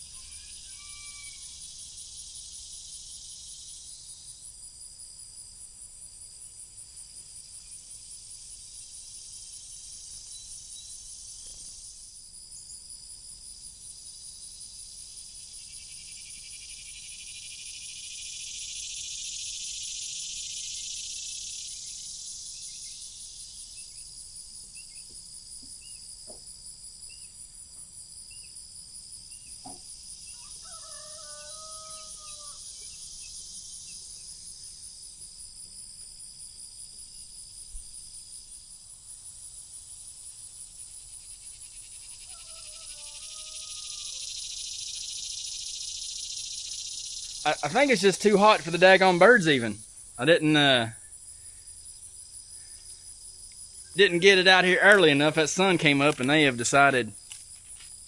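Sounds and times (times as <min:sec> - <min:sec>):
insect buzzing: 0:00.0 - 0:04.5, 0:06.8 - 0:58.0
insects trilling: 0:00.0 - 0:58.0.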